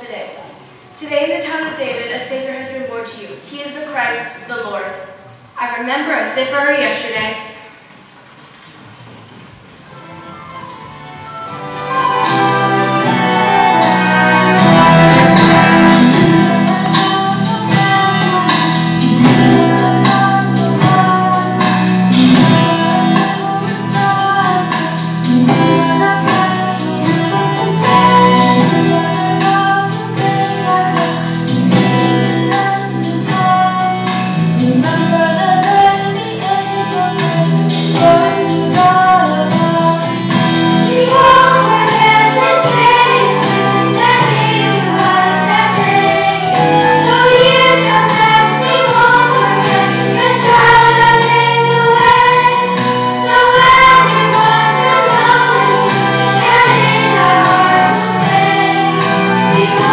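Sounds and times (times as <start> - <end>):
instrumental accompaniment: 9.7 - 59.9
children's choir singing: 10.0 - 59.9.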